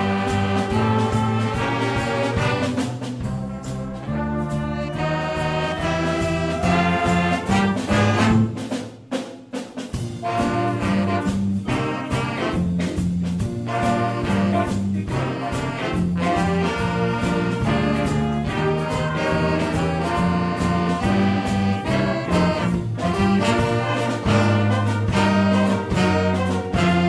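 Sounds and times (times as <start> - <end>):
drum hits: 0.0 - 4.1, 5.0 - 27.0
jazz band playing: 0.0 - 27.0.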